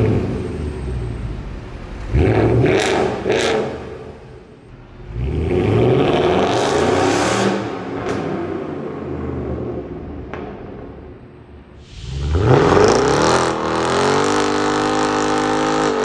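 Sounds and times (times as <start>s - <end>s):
car engine revving: 0.0s - 10.5s, 11.9s - 16.0s.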